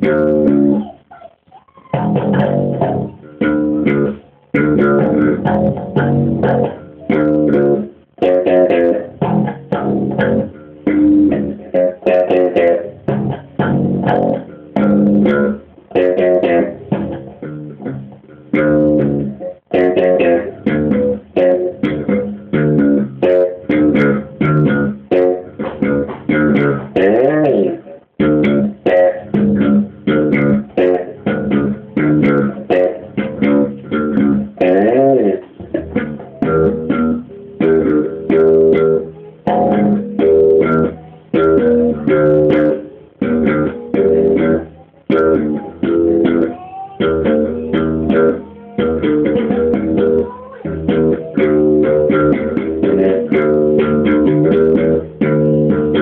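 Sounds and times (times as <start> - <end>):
slap bass guitar: 0.0 - 56.0.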